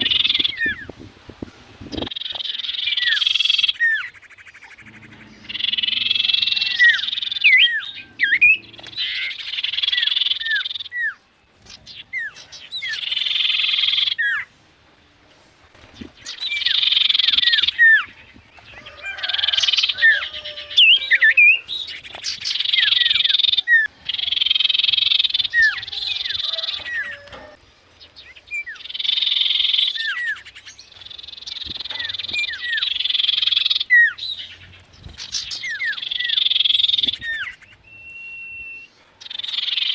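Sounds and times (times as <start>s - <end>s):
bird calling buzzy chatter: 0.0s - 39.9s.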